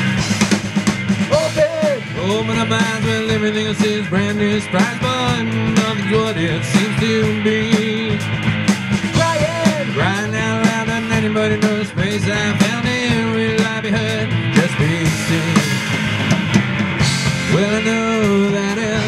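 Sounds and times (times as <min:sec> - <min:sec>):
bass guitar: 0:00.0 - 0:19.0
drum kit beat: 0:00.0 - 0:19.0
electric guitars: 0:00.0 - 0:19.0.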